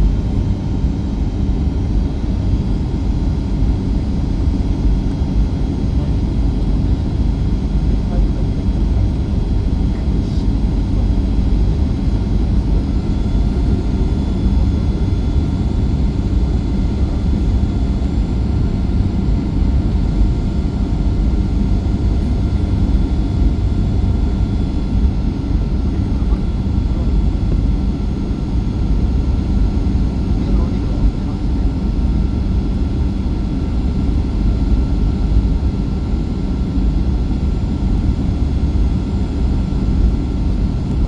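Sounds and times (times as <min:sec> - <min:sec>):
airplane cabin engine rush: 0:00.0 - 0:41.0
faint steady whine: 0:00.0 - 0:41.0.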